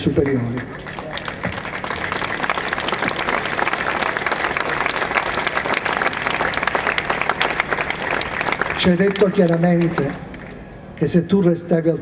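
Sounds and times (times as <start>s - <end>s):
crowd applauding: 0.0s - 11.1s.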